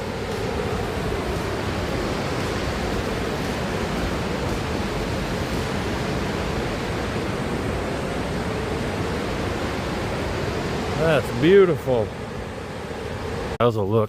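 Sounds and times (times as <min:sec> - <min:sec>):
waterfall roaring: 0:00.0 - 0:13.6.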